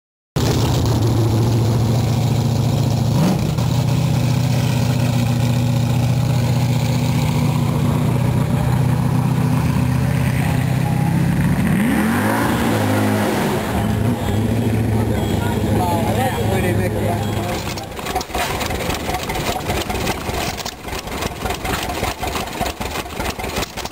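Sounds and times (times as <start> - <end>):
engine idling and revving: 0.4 - 23.9.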